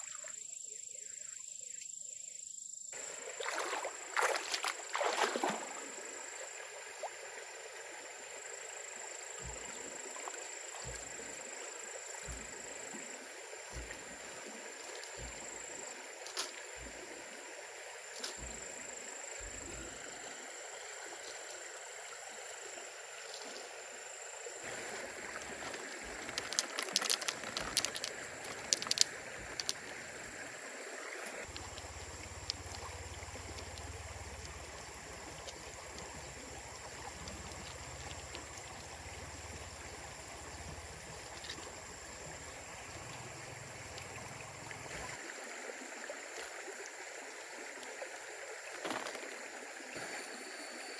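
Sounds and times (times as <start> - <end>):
stream running: 3.0 - 50.9.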